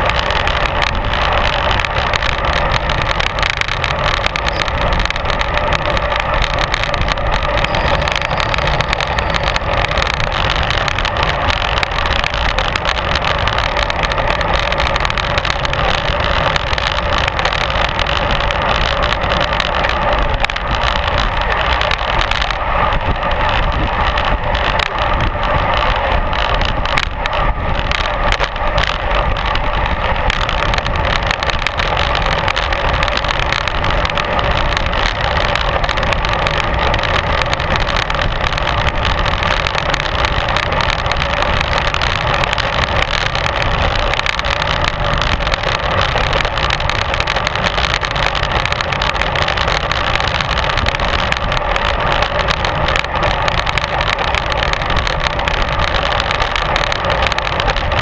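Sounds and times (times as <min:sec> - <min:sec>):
bicycle tyres humming on tarmac: 0:00.0 - 0:58.0
wind buffeting microphone: 0:00.0 - 0:58.0.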